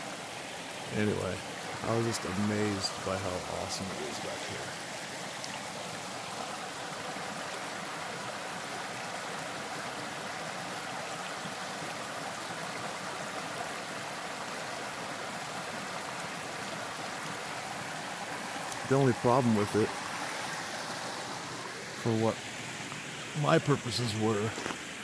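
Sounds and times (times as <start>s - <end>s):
creek water flowing over stones: 0.0s - 25.0s.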